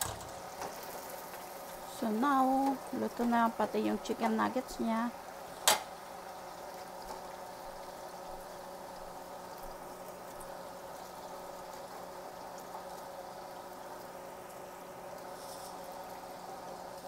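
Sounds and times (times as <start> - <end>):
hot oil bubbling in a deep fryer: 0.0 - 17.0.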